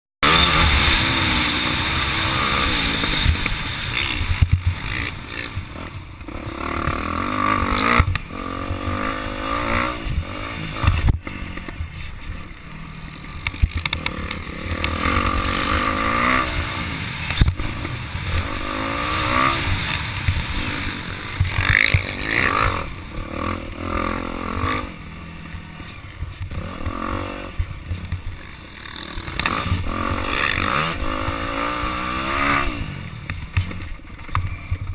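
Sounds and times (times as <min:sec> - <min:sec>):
dirt bike engines revving: 0:00.2 - 0:34.9.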